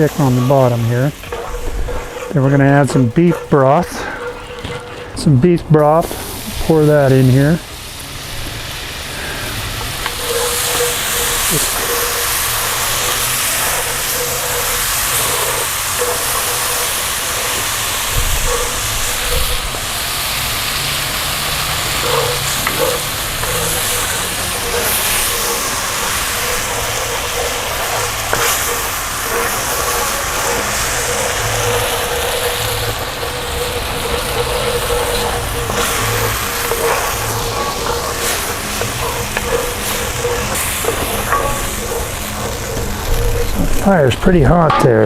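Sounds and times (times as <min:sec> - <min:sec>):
broth sizzling in a frying pan: 0:00.0 - 0:44.8.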